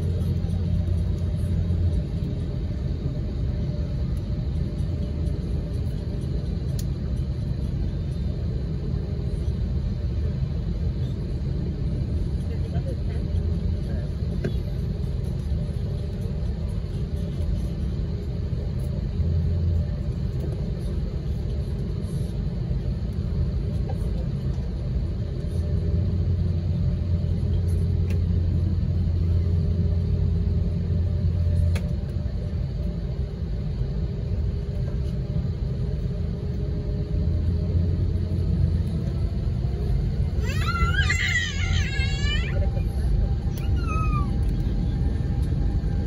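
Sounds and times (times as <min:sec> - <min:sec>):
jet engines running at low power: 0:00.0 - 0:46.0.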